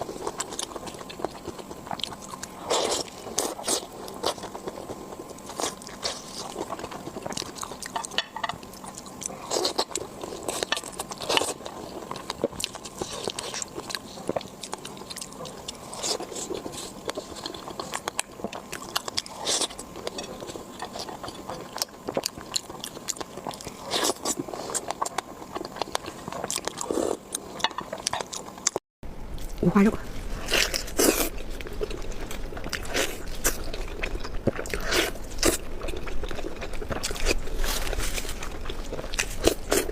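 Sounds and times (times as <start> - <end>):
person chewing crunchy food: 0.0 - 28.8, 29.4 - 39.9.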